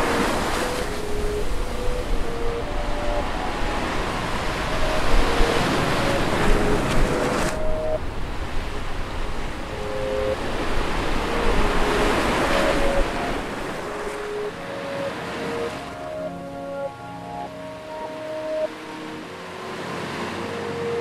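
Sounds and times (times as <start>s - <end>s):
slow melody of held notes: 0.0s - 21.0s.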